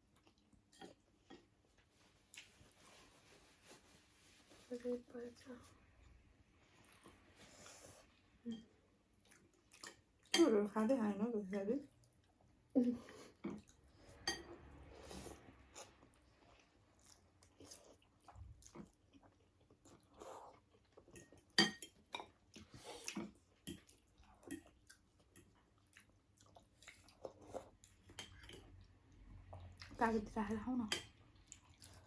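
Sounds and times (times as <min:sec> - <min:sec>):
chewing and eating: 0:00.0 - 0:03.0, 0:06.6 - 0:10.7, 0:11.4 - 0:30.3, 0:31.0 - 0:32.0.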